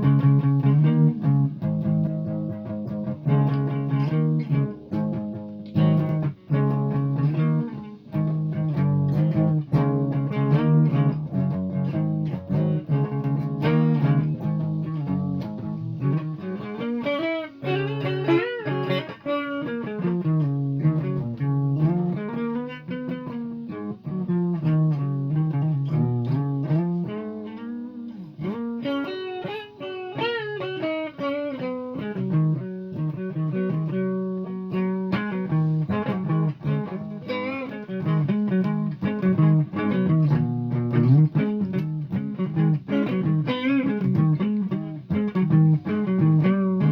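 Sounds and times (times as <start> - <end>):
solo guitar melody with bends: 0.0 - 46.9.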